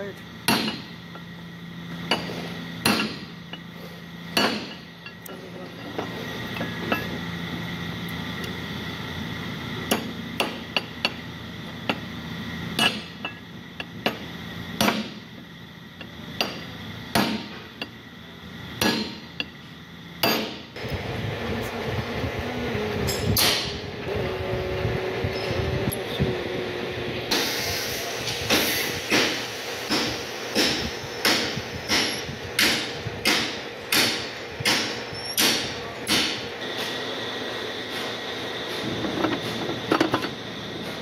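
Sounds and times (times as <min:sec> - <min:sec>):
machine whine: 0:00.0 - 0:41.0.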